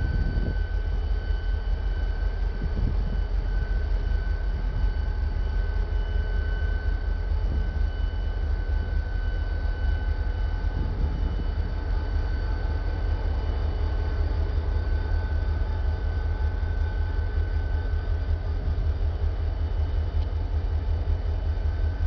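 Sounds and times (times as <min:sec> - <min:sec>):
diesel locomotive passing: 0:00.0 - 0:22.0.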